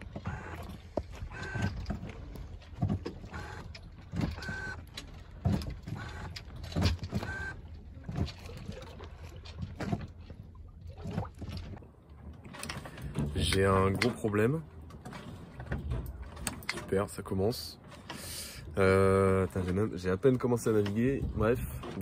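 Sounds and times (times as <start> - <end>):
sailboat creaks and knocks: 0.0 - 22.0.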